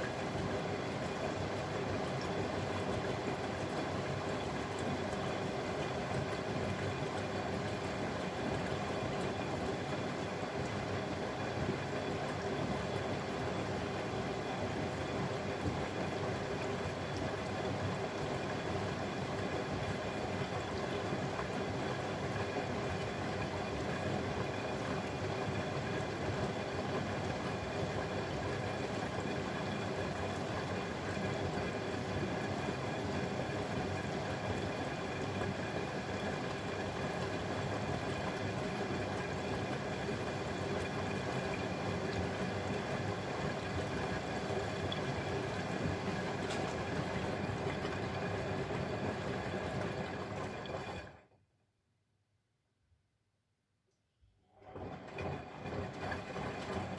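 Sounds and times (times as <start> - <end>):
washing machine rumble: 0.0 - 51.4, 54.6 - 56.9.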